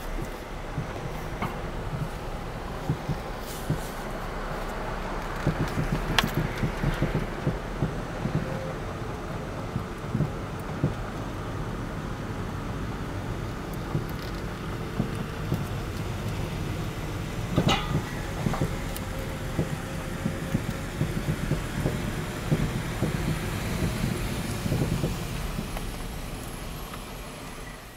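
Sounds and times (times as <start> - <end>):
suspension knocks and clunks: 0.0 - 11.5, 13.6 - 27.1
road noise inside a car: 0.0 - 27.9.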